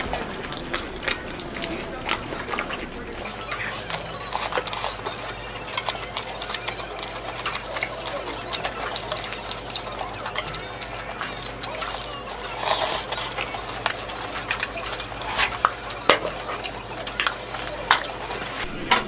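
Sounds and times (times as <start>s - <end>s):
wet chewing: 0.0s - 18.7s.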